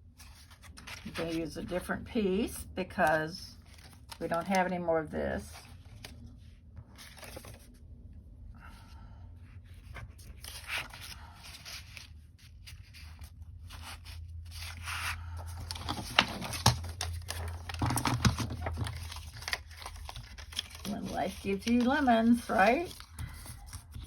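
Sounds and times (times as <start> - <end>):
paper rustling and crinkling: 0.1 - 1.8, 2.9 - 4.8, 5.4 - 7.8, 9.7 - 24.0.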